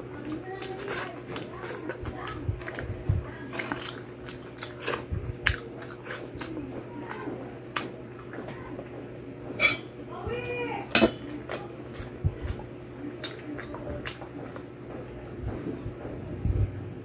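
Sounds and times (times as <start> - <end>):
chewing crunchy food: 0.0 - 10.1, 11.1 - 16.3
steady low hum: 0.0 - 17.0.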